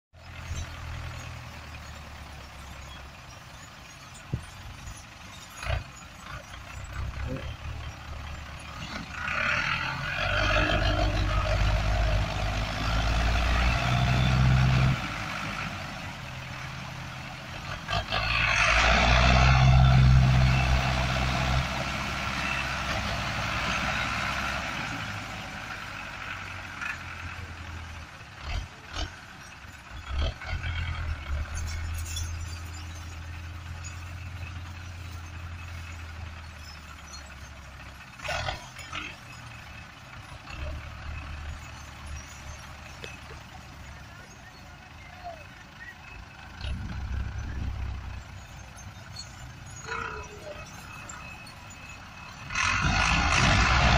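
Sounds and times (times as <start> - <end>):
tractor diesel engines working hard: 0.1 - 53.9.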